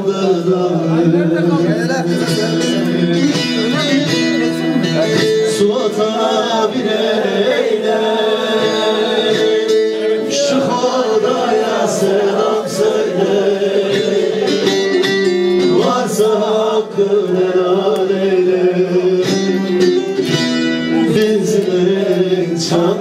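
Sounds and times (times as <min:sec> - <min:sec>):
strummed lute: 0:00.0 - 0:23.0.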